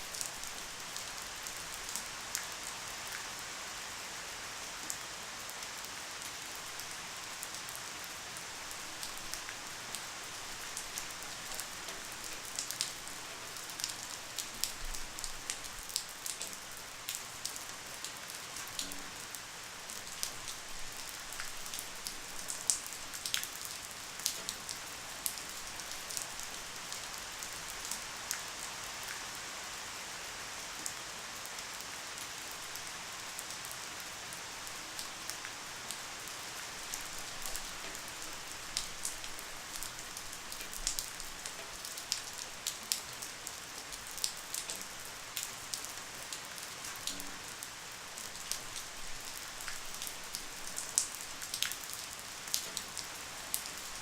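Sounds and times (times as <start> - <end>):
light rain: 0.0 - 54.0.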